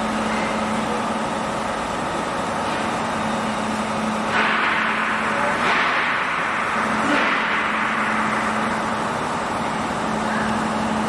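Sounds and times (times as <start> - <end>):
laser welding machine humming: 0.0 - 11.0.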